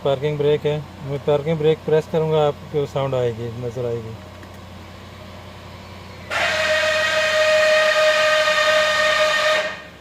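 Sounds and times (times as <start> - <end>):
parking brake motor whine: 0.0 - 10.0.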